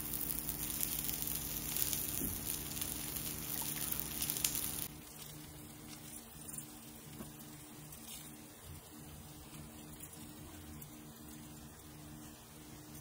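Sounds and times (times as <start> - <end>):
batter sizzling in oil: 0.0 - 13.0
faint low hum: 0.0 - 13.0.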